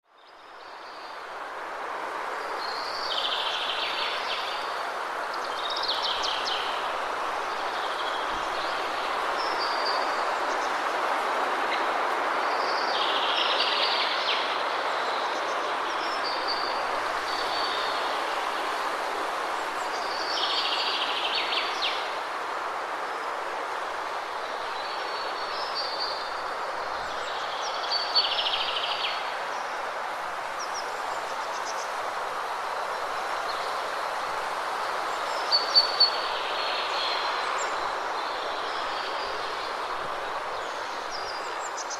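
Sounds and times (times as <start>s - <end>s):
waterfall rushing: 1.1s - 41.9s.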